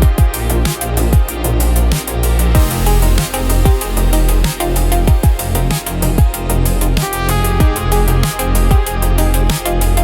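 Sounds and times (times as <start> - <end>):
punchy kick drums: 0.0 - 2.0, 2.6 - 9.0
electronic music: 0.0 - 10.0.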